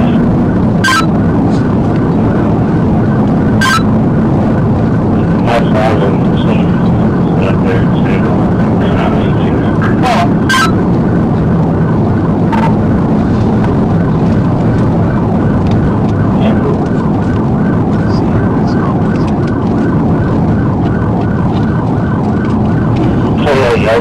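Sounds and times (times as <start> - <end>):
car engine and road noise: 0.0 - 24.0
police siren yelping: 0.0 - 24.0.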